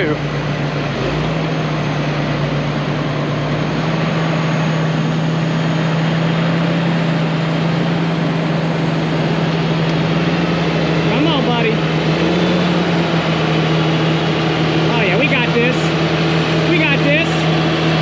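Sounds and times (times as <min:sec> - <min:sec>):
diesel tractor engine running hard: 0:00.0 - 0:18.0.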